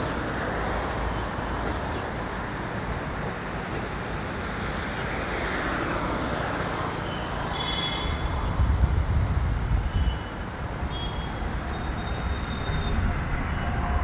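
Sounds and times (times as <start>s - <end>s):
city traffic: 0.0s - 14.0s
rail yard noise: 0.0s - 14.0s.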